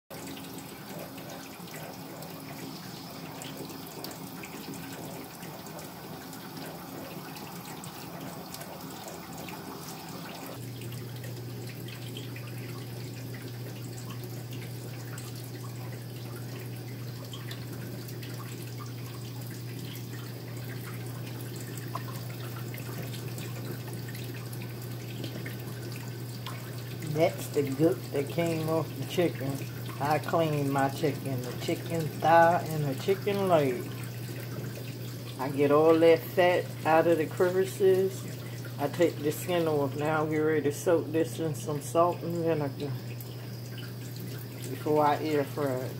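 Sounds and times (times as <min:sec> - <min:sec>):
water drips and splashes: 0:00.1 - 0:45.9.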